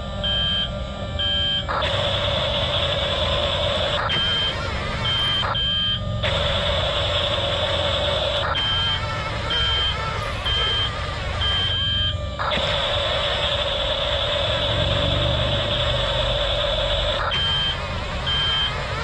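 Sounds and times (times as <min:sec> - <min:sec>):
simulated engine drone: 0:00.0 - 0:19.0
reversing beeps: 0:00.2 - 0:19.0.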